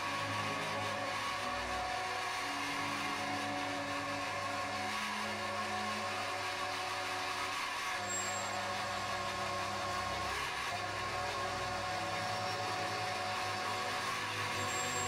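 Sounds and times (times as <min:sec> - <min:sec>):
metal lathe motor hum: 0:00.0 - 0:15.0.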